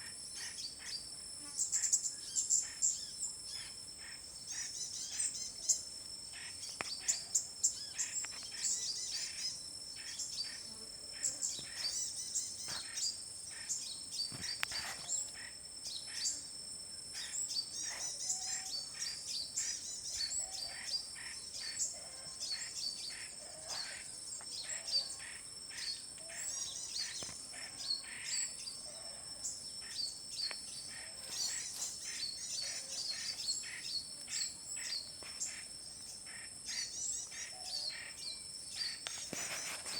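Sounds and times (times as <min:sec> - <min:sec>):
high-pitched insect drone: 0:00.0 - 0:39.9
birds chirping and calling: 0:01.6 - 0:16.4, 0:17.2 - 0:39.9.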